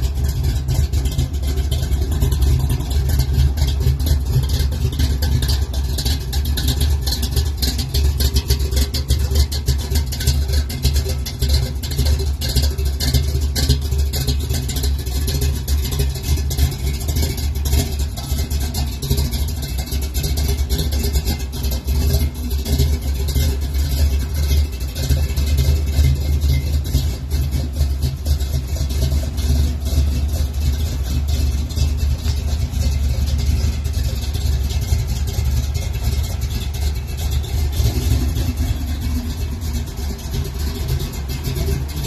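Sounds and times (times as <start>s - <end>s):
engine running with loud exhaust: 0.0s - 42.0s.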